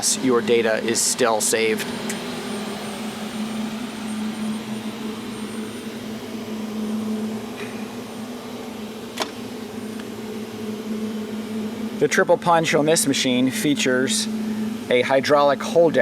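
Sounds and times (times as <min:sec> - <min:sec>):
hydraulic pump humming: 0:00.0 - 0:16.0.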